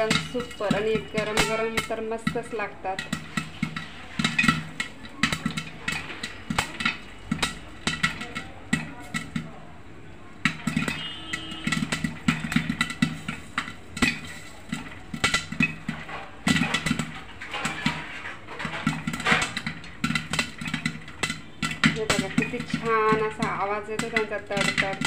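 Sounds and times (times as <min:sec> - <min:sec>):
popcorn popping: 0:00.0 - 0:25.0
pot rattling: 0:00.0 - 0:25.0.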